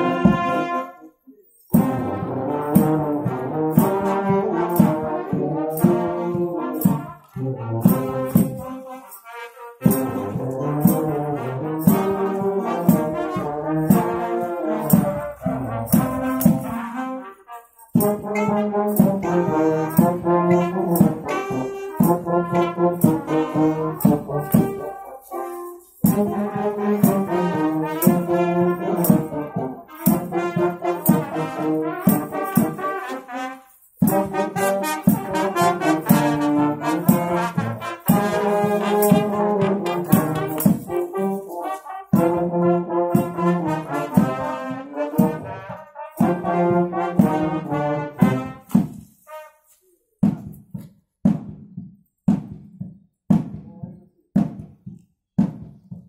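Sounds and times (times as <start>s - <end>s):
drum beats: 0.0s - 0.9s, 1.5s - 49.3s, 50.2s - 56.0s
brass band playing a march: 0.0s - 49.9s.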